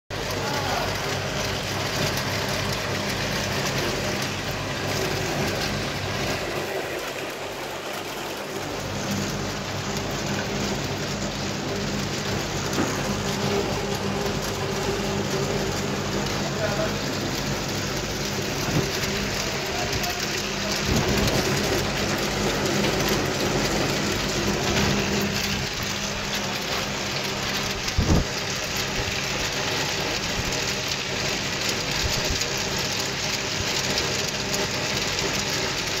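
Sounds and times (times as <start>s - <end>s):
electric motor hum: 0.2s - 34.9s.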